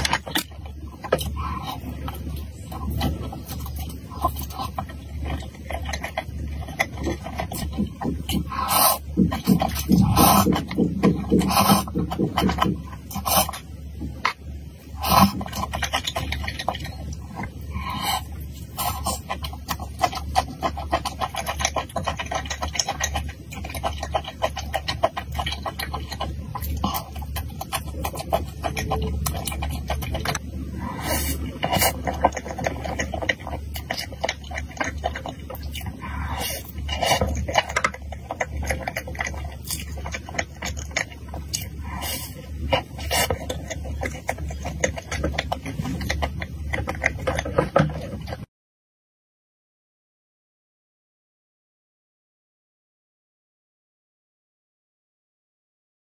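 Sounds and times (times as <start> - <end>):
wet chewing and slurping: 0.0 - 48.5.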